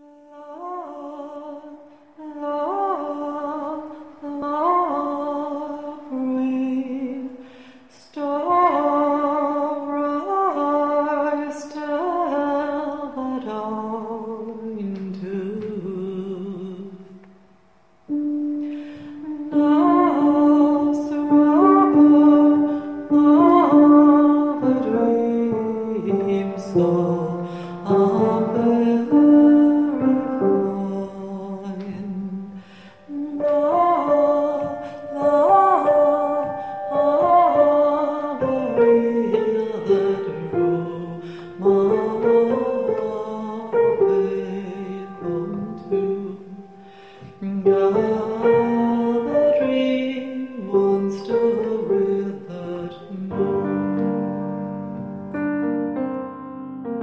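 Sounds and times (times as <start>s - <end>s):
woman singing slow melody: 0.0s - 17.3s, 18.1s - 55.2s.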